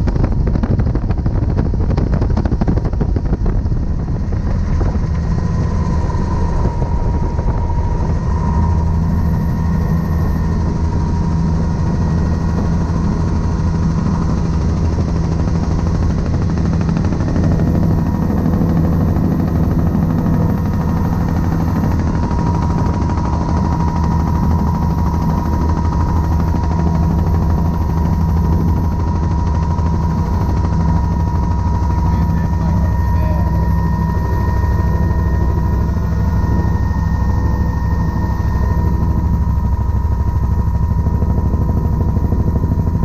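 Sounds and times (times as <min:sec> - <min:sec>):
helicopter engine noise: 0:00.0 - 0:43.0
helicopter rotor chopping: 0:00.0 - 0:43.0.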